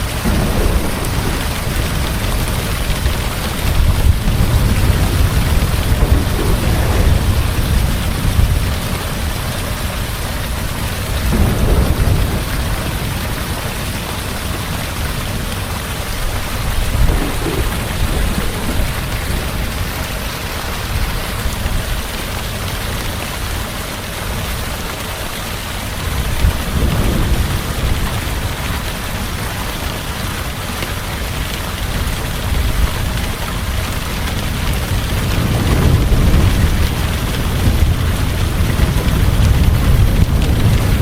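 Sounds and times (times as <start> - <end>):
low rolling thunder: 0.0 - 23.0, 25.7 - 41.0
heavy rain falling: 0.0 - 41.0.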